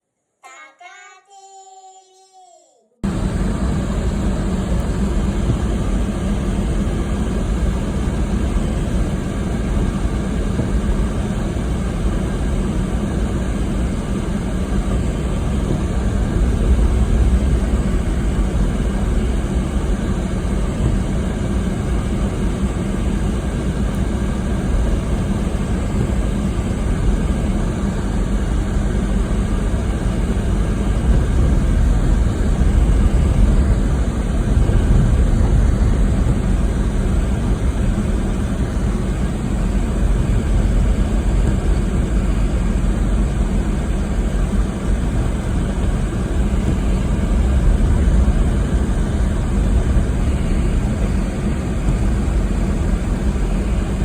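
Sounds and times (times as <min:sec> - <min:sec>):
blizzard wind blowing hard: 0:03.0 - 0:54.0.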